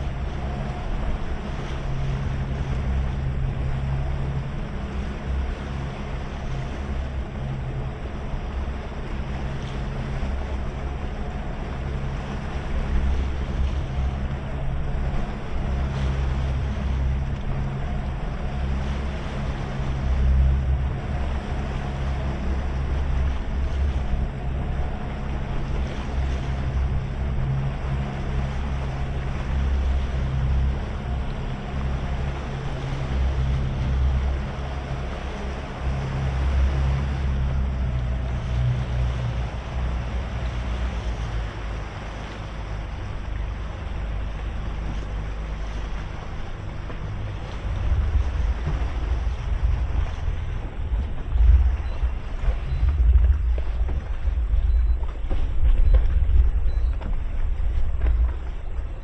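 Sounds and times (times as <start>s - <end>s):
outboard engines running: 0.0s - 59.0s
water rushing along hull: 0.0s - 59.0s
wind buffeting microphone: 0.0s - 59.0s.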